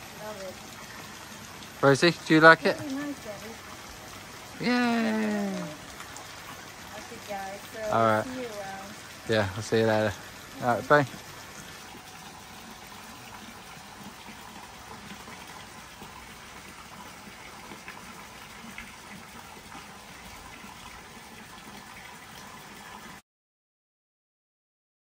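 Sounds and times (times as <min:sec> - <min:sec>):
water spout splashing into pool: 0:00.0 - 0:23.2.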